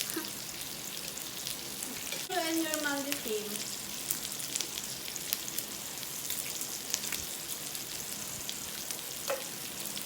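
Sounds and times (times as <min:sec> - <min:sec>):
beef sizzling on a grill pan: 0:00.0 - 0:10.0.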